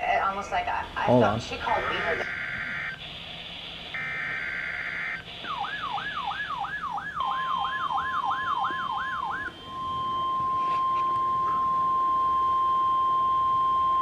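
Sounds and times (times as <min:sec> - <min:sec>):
steady warning alarm tone: 0:00.0 - 0:14.0
harsh buzzing data tone: 0:00.5 - 0:14.0
wailing siren-like alert tone: 0:00.8 - 0:14.0.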